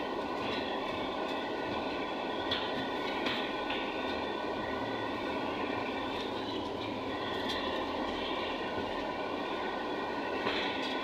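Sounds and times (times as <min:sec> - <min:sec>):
faint steady whine: 0:00.0 - 0:11.0
trolleybus rumbling on road: 0:00.0 - 0:11.0.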